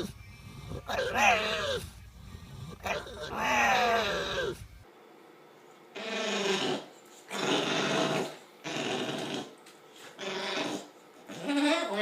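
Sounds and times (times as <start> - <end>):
animal snoring: 0.0 - 4.6, 6.0 - 12.0.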